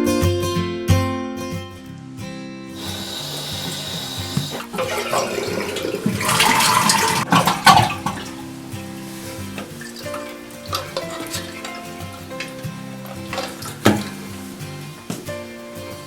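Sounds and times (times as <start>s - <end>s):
guitar music: 0.0s - 16.0s
toilet flushing: 2.7s - 16.0s.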